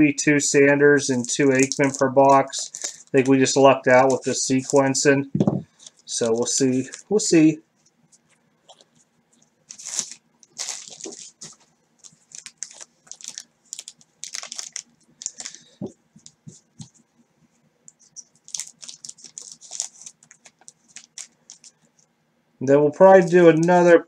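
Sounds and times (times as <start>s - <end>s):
card packs crinkling: 1.0s - 7.5s, 8.1s - 16.9s, 18.1s - 21.9s, 23.2s - 23.8s.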